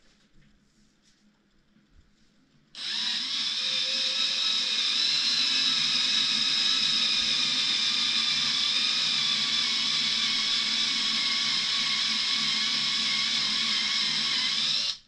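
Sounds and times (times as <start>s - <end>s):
rotary tool grinding resin: 2.8s - 15.0s.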